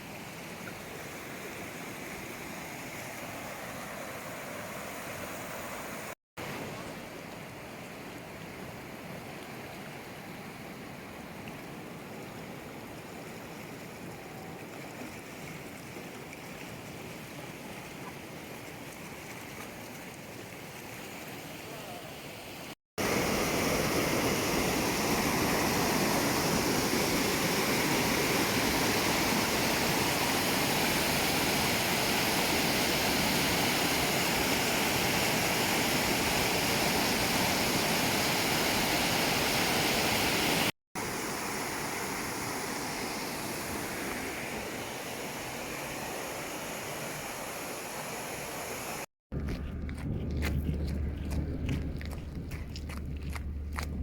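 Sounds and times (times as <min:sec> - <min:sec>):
flowing mountain water: 0:00.0 - 0:54.0.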